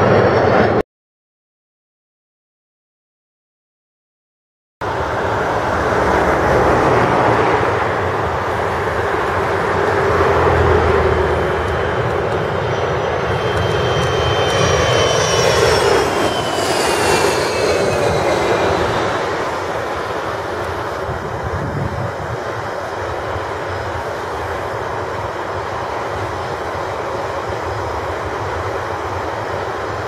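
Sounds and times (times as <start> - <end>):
jet engines roaring: 0.0 - 0.8, 4.8 - 30.0
turbine whine gliding down: 4.8 - 30.0.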